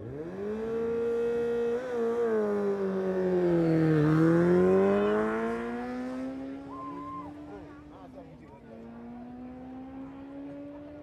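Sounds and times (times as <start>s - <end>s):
motorcycle engine at high revs: 0.0s - 7.9s, 8.8s - 11.0s.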